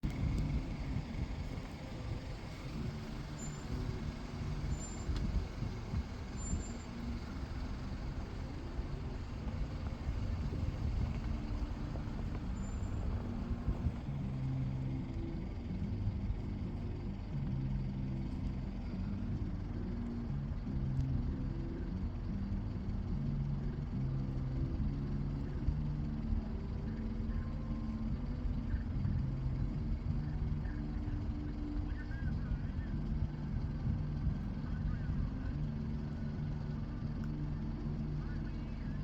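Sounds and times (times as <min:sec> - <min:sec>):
motor vehicle rumbling: 0:00.0 - 0:39.0.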